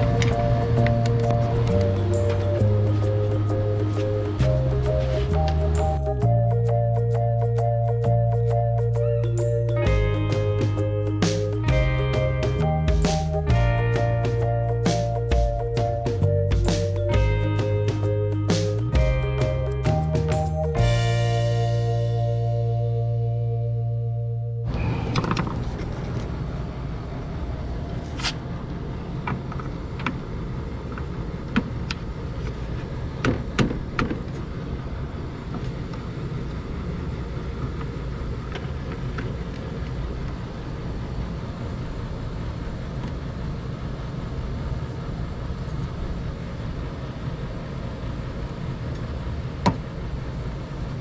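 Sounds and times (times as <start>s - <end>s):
air conditioner humming: 0.0s - 51.0s.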